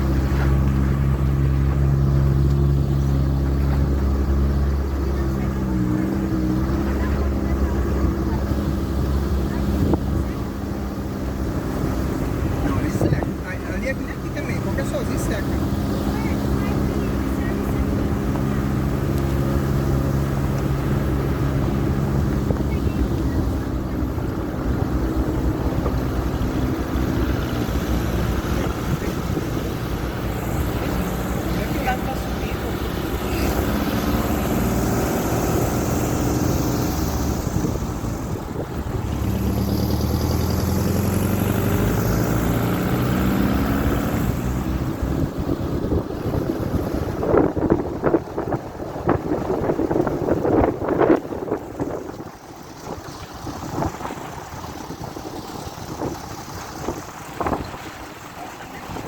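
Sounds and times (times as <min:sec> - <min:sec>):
constant rushing noise: 0:00.0 - 0:59.0
engine running steadily: 0:00.0 - 0:59.0
motor droning: 0:00.0 - 0:59.0.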